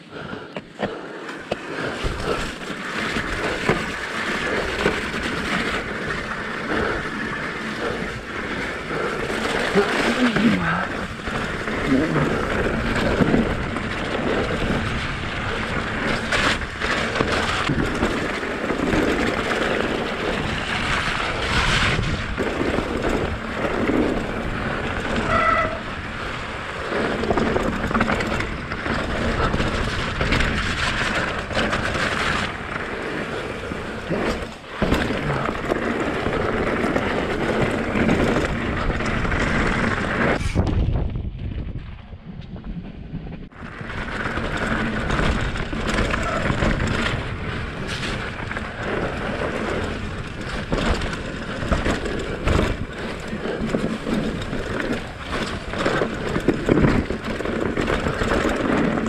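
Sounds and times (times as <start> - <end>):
bike tyre noise: 0.0 - 59.0
wind buffeting microphone: 1.8 - 59.0.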